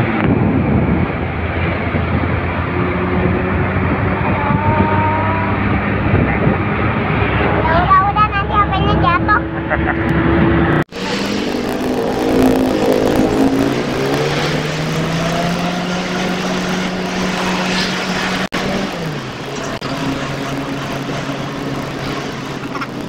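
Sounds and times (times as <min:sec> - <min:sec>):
road noise: 0:00.0 - 0:23.0
car engine from inside cabin: 0:00.2 - 0:23.0.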